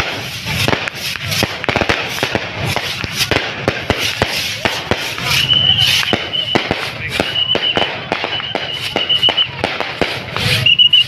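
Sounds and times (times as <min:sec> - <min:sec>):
crackling rumble: 0:00.0 - 0:11.0
fireworks bangs and cracks: 0:00.0 - 0:11.0.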